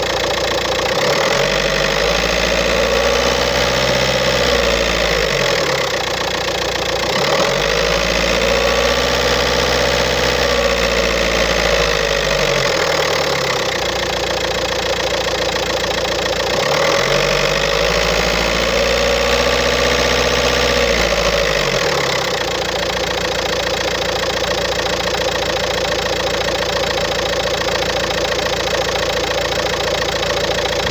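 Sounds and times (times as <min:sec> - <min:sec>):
rattling diesel car engine: 0:00.0 - 0:30.9.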